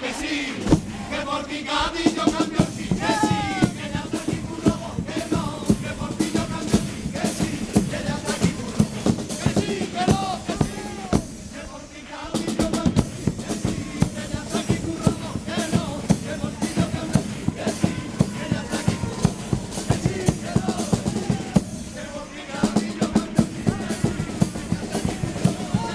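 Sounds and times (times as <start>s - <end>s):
bass drum and snare march rhythm: 0.1s - 25.9s.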